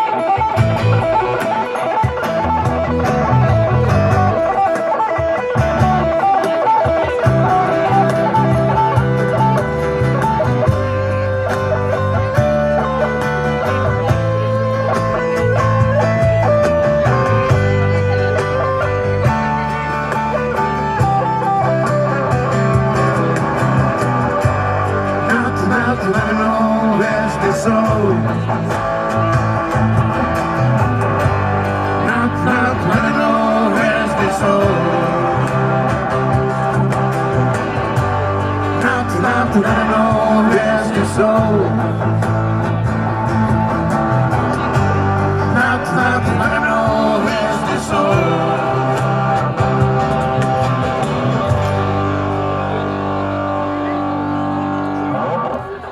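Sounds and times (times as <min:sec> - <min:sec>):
electric guitar: 0:00.0 - 0:55.9
live rock band playing: 0:00.0 - 0:55.9.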